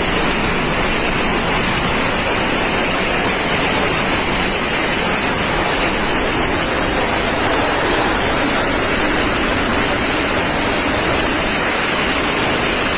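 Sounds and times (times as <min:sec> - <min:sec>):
heavy rain: 0:00.0 - 0:12.9
hurricane wind: 0:00.0 - 0:12.9.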